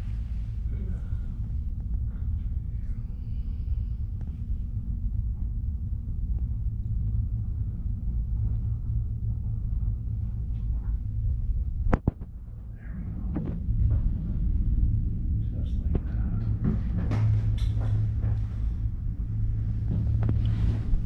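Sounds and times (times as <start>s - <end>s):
gondola cabin rumble: 0.0s - 21.0s.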